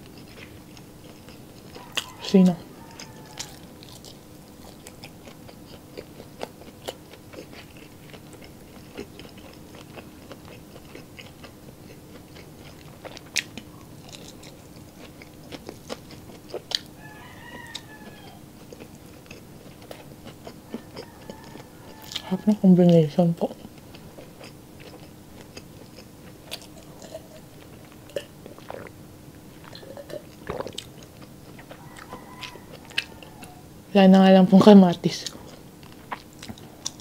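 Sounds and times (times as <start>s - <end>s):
close chewing with mouth smacks: 0.0s - 16.9s, 17.6s - 33.6s, 35.2s - 37.0s
faint steady hum: 0.0s - 37.0s.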